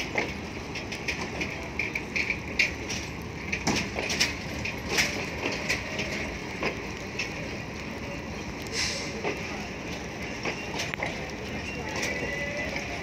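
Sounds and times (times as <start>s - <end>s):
train coaches rolling past: 0.0s - 13.0s
wheels knocking over rail joints: 0.0s - 13.0s.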